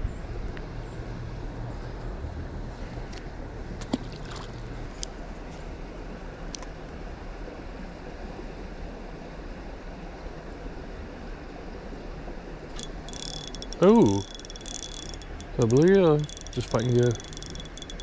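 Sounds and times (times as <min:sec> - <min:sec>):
rushing outdoor background noise: 0:00.0 - 0:18.0.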